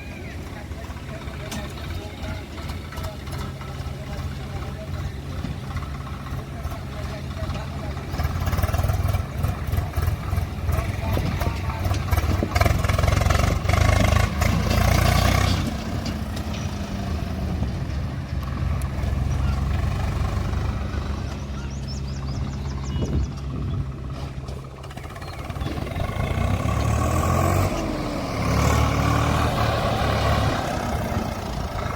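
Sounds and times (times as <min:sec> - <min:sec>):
diesel engine running: 0:00.0 - 0:31.9
engine knocks: 0:00.0 - 0:31.9.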